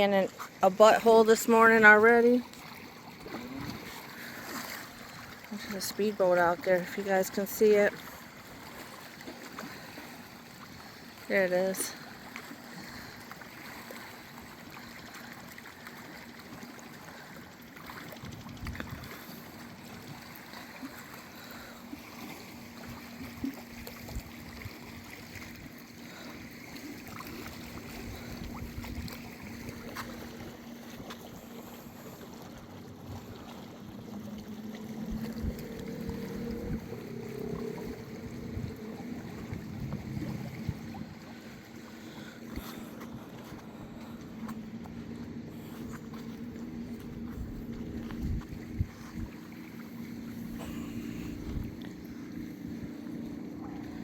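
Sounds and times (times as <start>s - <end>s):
distant speedboat engine humming: 0.0s - 54.0s
small waves washing: 0.0s - 54.0s.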